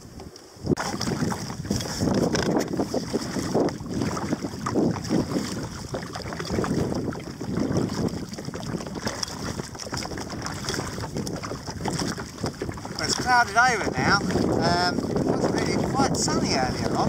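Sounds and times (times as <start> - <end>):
wind buffeting microphone: 0.0 - 17.0
kayak paddle splashing: 0.1 - 17.0.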